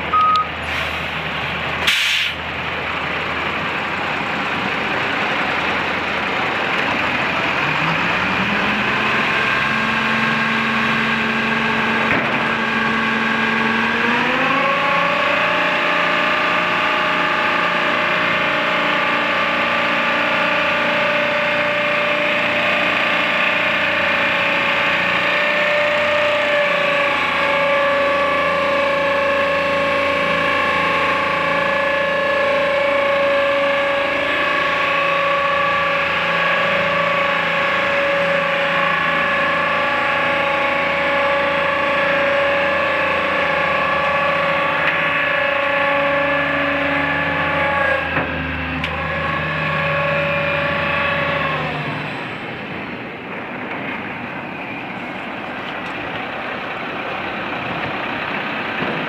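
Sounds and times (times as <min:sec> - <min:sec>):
truck engine running: 0:00.0 - 0:59.0
hydraulic hoist whine: 0:05.5 - 0:59.0.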